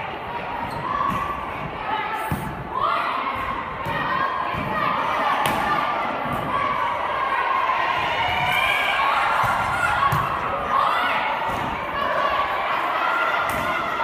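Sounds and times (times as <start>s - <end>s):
crowd shouting and cheering: 0.0s - 14.0s.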